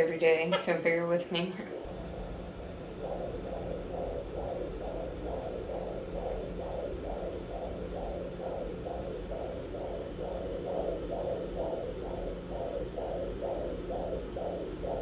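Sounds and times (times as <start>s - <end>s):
fetal heartbeat on doppler: 0.0s - 15.0s
steady hum: 0.0s - 15.0s.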